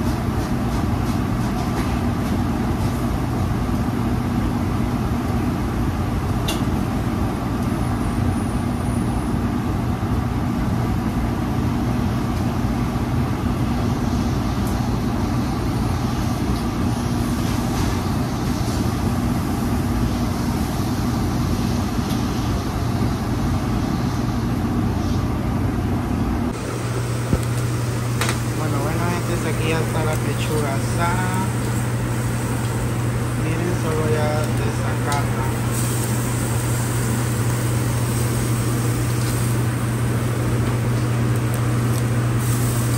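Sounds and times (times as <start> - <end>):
exhaust hood fan droning: 0.0 - 42.9.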